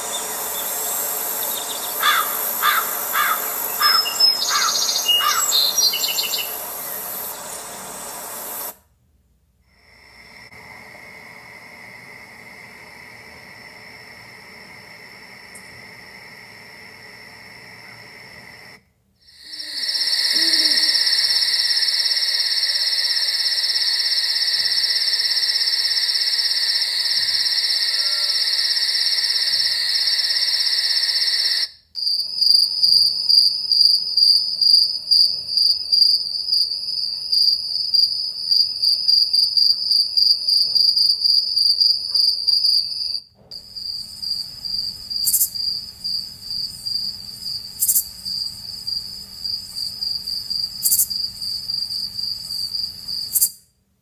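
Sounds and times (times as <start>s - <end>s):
crickets chirping: 0.0s - 8.8s, 9.6s - 53.8s
insect trill: 0.0s - 8.8s, 9.7s - 53.8s.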